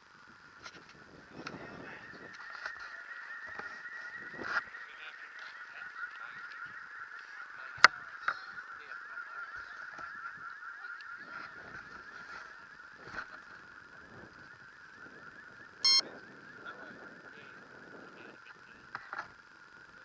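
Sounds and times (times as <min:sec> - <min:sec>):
high-pitched wavering buzz: 0:00.0 - 0:20.0.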